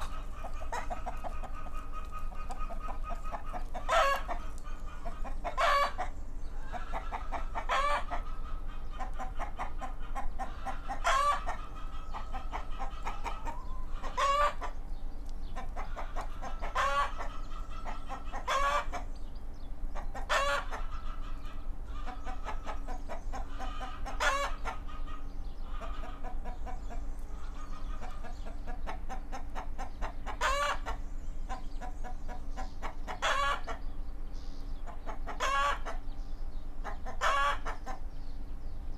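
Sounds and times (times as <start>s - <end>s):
chickens clucking: 0.0s - 38.9s
faint steady hum: 0.0s - 38.9s.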